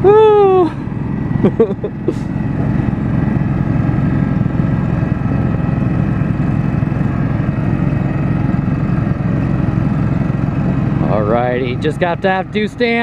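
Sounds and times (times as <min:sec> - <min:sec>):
garden tractor engine running: 0:00.0 - 0:13.0.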